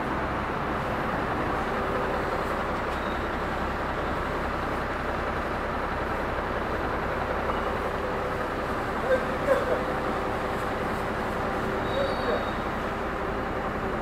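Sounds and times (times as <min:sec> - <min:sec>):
truck engine and pump running: 0:00.0 - 0:14.0.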